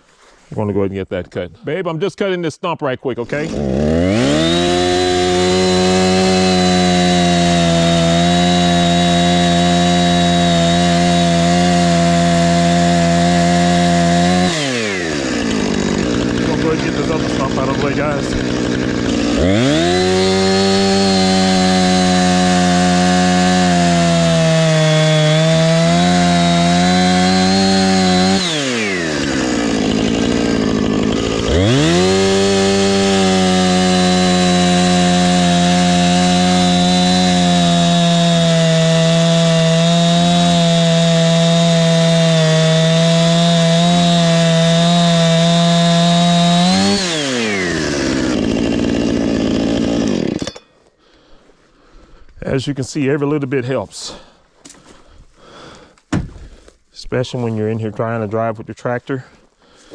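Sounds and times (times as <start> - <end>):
chainsaw cutting wood: 3.3 - 51.5, 54.1 - 56.8.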